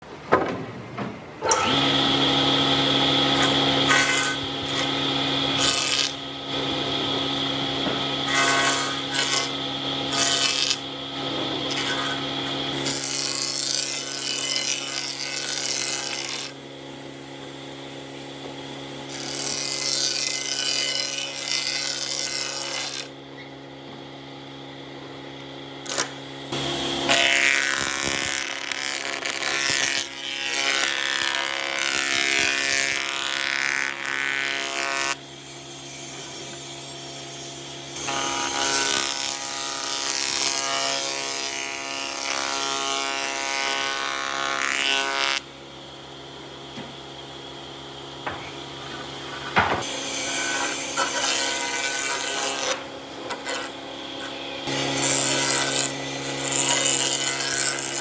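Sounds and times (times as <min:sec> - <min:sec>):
wood cutting scraping: 0:00.0 - 0:58.0
power tool motor humming: 0:01.4 - 0:16.6, 0:25.8 - 0:58.0.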